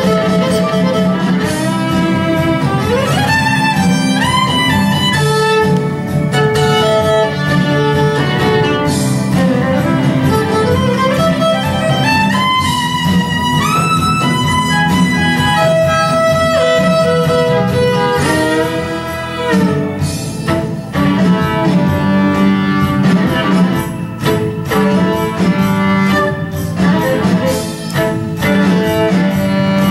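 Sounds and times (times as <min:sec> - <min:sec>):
violin playing fiddle melody: 0:00.0 - 0:29.9
steady low accompaniment: 0:01.0 - 0:29.9.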